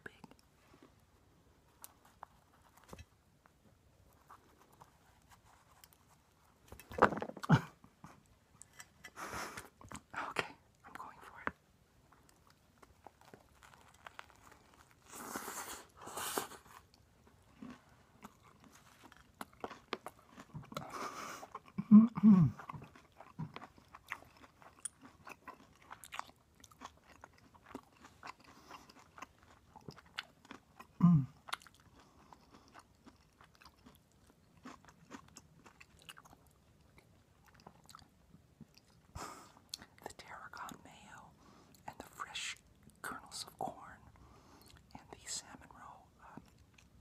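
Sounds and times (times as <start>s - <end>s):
person chewing a sandwich: 0.1s - 10.1s, 11.4s - 47.0s.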